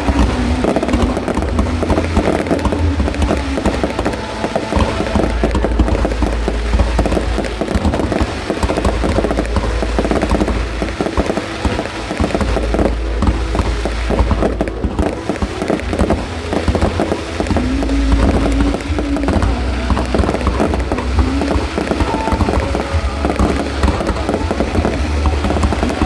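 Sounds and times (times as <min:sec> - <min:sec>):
deep rumble: 0:00.0 - 0:26.0
fireworks bangs and crackles: 0:00.0 - 0:26.0.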